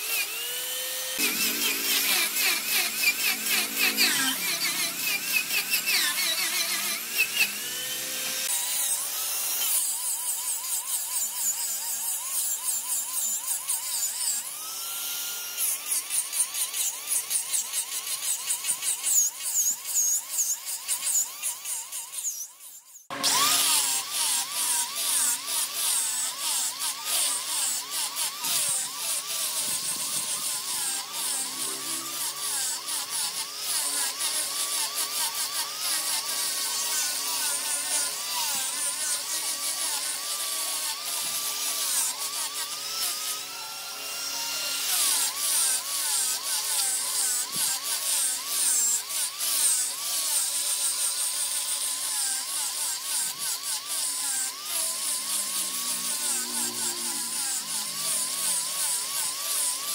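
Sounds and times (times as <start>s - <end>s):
turning tool scraping wood: 0.0s - 59.9s
wood lathe motor hum: 0.0s - 59.9s.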